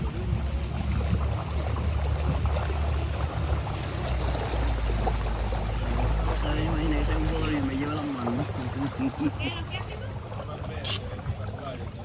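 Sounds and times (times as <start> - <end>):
motorboat engine hum: 0.0 - 12.0
rushing water and spray: 0.0 - 12.0.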